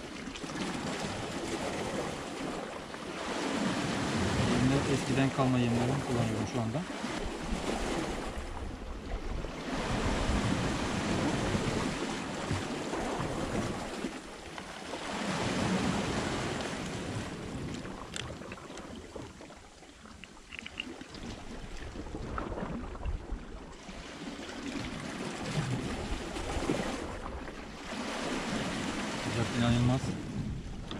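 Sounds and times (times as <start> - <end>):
surf washing against rocks: 0.0 - 8.7, 9.6 - 30.9
wind on microphone: 0.0 - 14.3, 14.9 - 19.4, 20.2 - 30.9.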